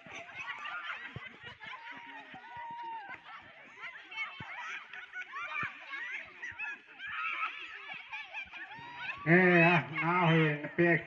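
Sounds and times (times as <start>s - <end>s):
spectators chattering and laughing: 0.0s - 11.0s.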